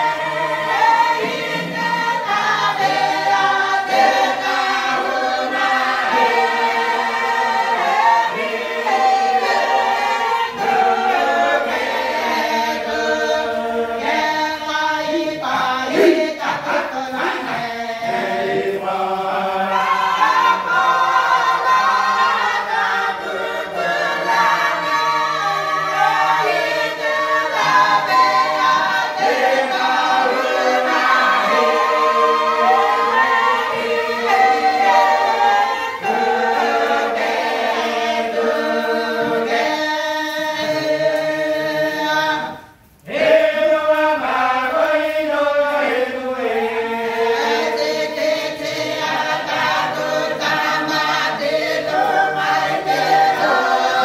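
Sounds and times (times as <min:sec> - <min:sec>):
children singing unaccompanied: 0:00.0 - 0:54.0.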